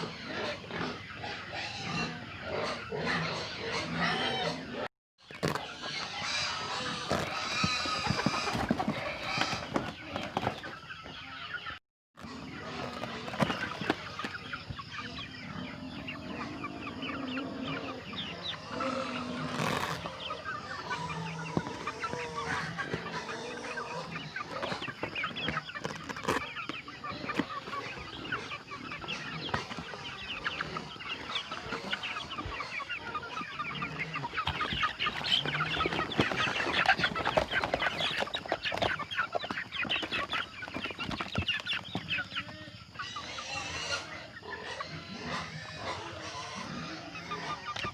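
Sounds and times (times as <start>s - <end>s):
chickens clucking and cheeping: 0.0s - 47.9s.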